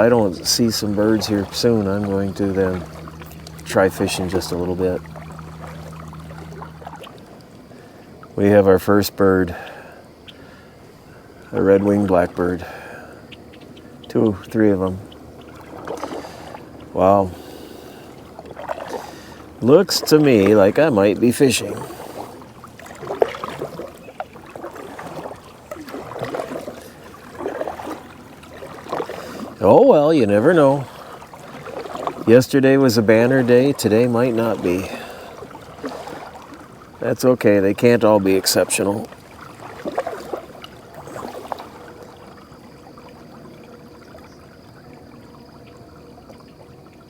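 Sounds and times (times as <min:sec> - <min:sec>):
paddle strokes splashing in water: 0:00.0 - 0:47.0.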